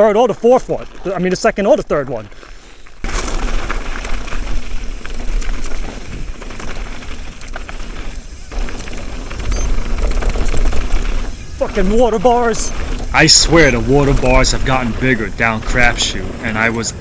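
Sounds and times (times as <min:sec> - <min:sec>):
bike rattling: 0:00.0 - 0:17.0
tyres rumbling on dirt: 0:00.0 - 0:17.0
wind buffeting microphone: 0:03.0 - 0:17.0.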